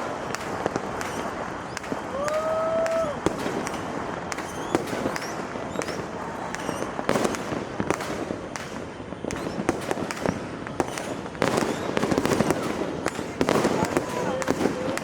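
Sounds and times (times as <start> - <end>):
firecrackers crackling: 0.0 - 15.0
firework whistles: 0.0 - 15.0
fireworks bangs: 0.0 - 15.0.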